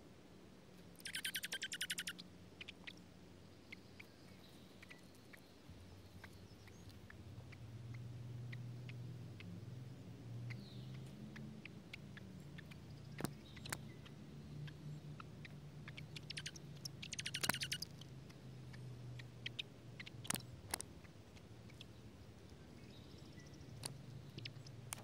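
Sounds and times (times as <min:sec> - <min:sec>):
low steady hum: 0:00.0 - 0:25.0
bird chirps: 0:00.9 - 0:25.0.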